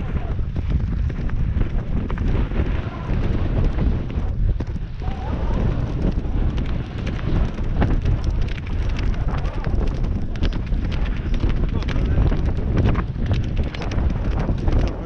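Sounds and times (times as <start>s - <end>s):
horse hoofbeats on dirt: 0.0s - 15.0s
wind buffeting microphone: 0.0s - 15.0s.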